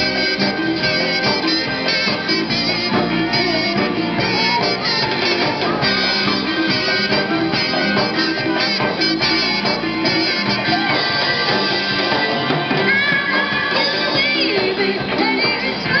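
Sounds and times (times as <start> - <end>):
live pop-rock band playing: 0.0 - 16.0.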